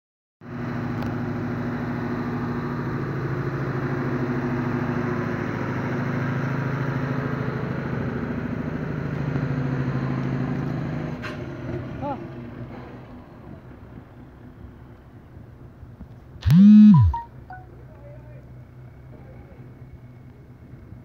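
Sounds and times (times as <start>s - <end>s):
truck engine running: 0.4s - 21.0s.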